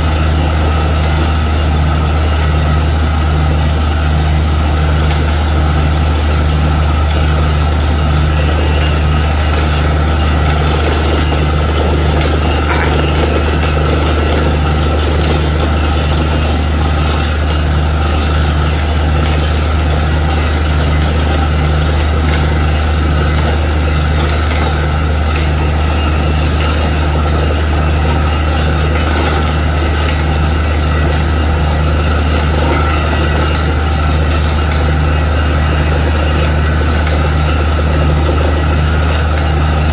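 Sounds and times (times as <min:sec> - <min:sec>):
constant rushing noise: 0:00.0 - 0:39.9
drilling rig engine hum: 0:00.0 - 0:39.9.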